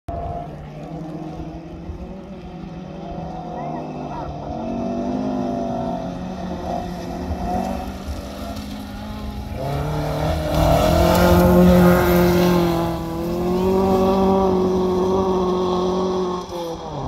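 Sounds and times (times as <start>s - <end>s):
rally car engine: 0.1s - 17.0s.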